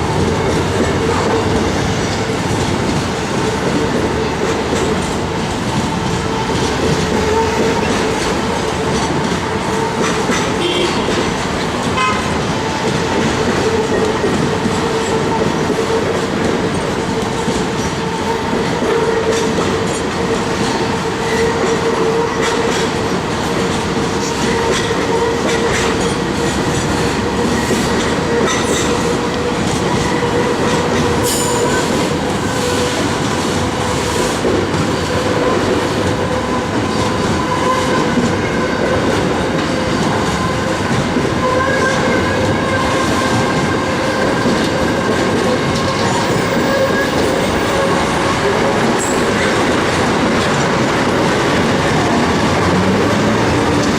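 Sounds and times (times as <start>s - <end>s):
train rumble: 0.0s - 53.9s
train wheels clattering over rails: 0.0s - 53.9s.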